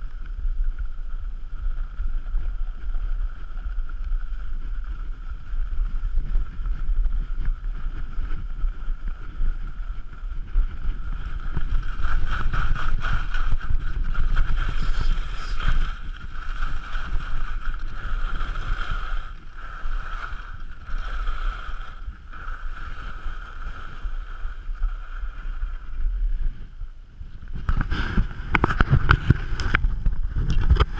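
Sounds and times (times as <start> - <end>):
skis running over snow: 0.0 - 30.9
wind buffeting microphone: 0.0 - 30.9.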